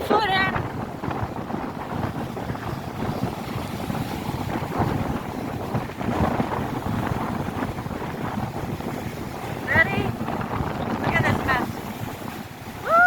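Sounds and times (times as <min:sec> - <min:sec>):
rough sea surf: 0:00.0 - 0:13.0
wind buffeting microphone: 0:00.0 - 0:13.0.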